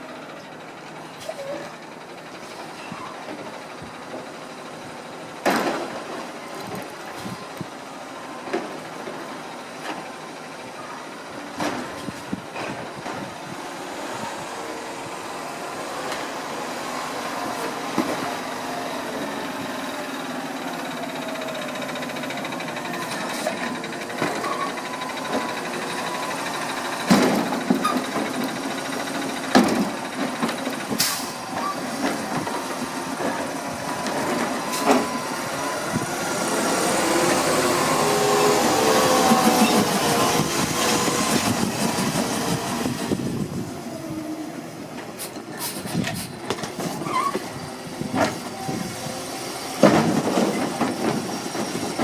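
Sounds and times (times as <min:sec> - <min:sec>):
garbage truck engine running: 0:00.0 - 0:52.0.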